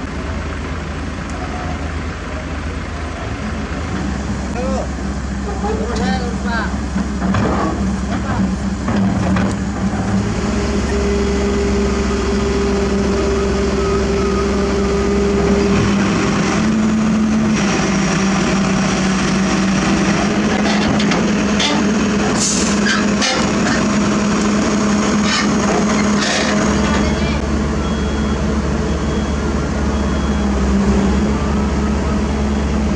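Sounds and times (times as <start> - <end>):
heavy diesel engines running: 0.0 - 32.9.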